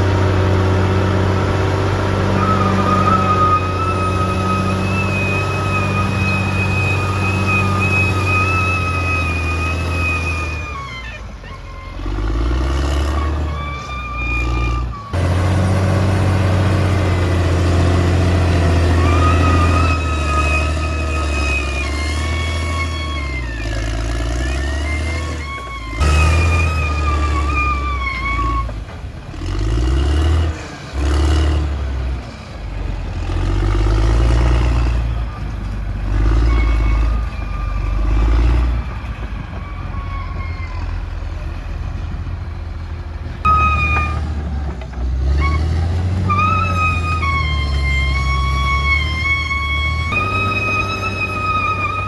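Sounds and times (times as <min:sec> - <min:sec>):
high squealing tone: 0:00.0 - 0:30.0, 0:33.4 - 0:41.8, 0:43.4 - 0:52.0
bulldozer diesel engine rumbling: 0:00.0 - 0:52.0.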